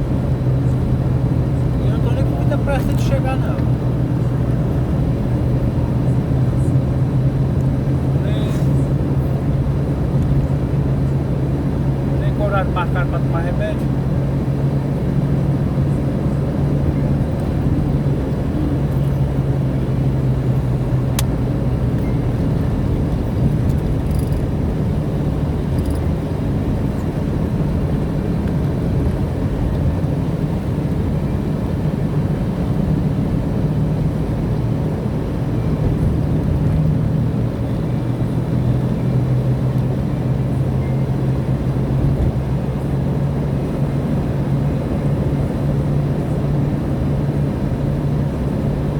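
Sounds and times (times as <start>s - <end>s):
car engine hum: 0.0s - 48.9s
tyre and road rumble: 0.0s - 48.9s.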